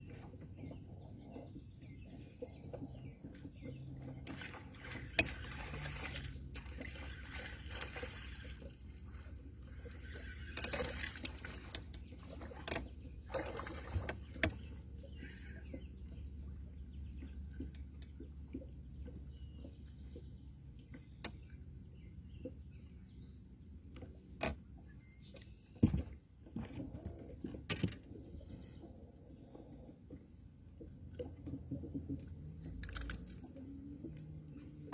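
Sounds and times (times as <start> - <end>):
low steady rumble: 0.0 - 34.9
water lapping around boat: 0.0 - 34.9.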